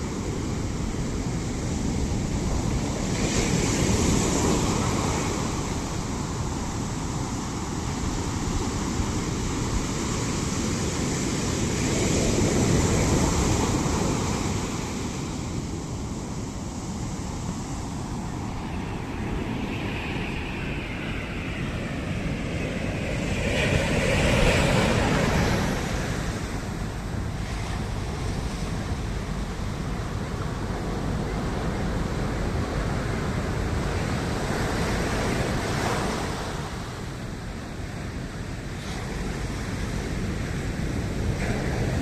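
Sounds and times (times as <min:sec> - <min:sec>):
sea waves breaking: 0:00.0 - 0:42.0
wind on microphone: 0:00.0 - 0:42.0.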